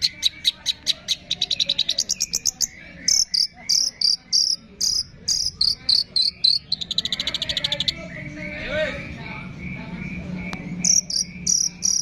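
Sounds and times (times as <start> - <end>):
sharp bird chirps: 0.0 - 9.1, 9.7 - 12.0
bird ticking trill: 0.0 - 12.0.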